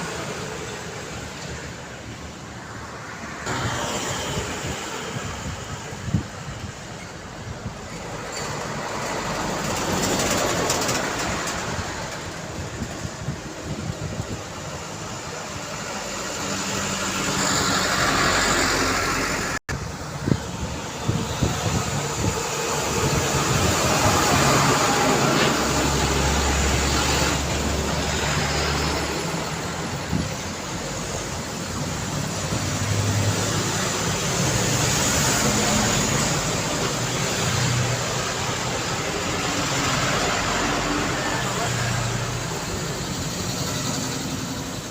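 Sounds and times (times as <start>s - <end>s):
heavy vehicle engine drone: 0.0s - 44.9s
road traffic passing: 0.0s - 44.9s.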